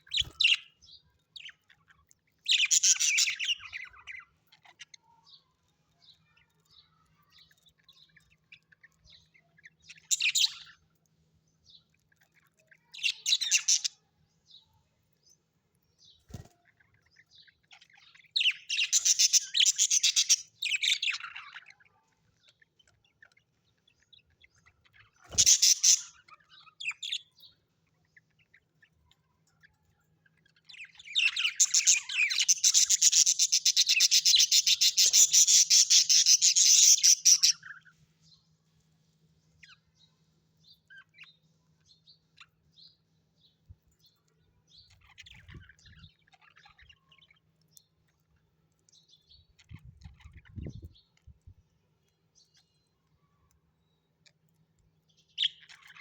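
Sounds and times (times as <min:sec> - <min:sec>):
small parrots chirping and chattering: 0:00.0 - 0:56.0.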